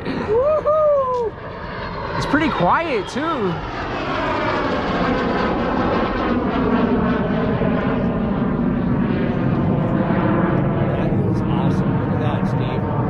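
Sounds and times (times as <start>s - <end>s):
airplane engine passing overhead: 0.0s - 13.0s.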